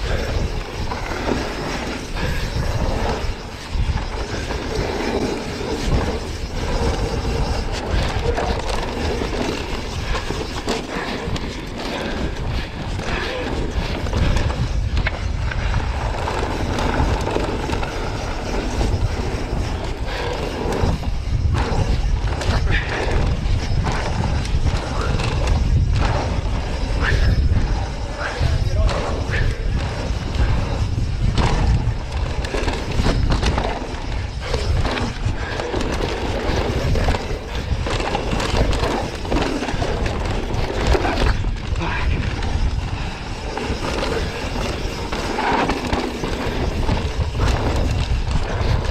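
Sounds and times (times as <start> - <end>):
bike clicks and rattles: 0.0 - 48.9
bike tyres rolling over dirt and rock: 0.0 - 48.9
wind buffeting microphone: 0.0 - 48.9.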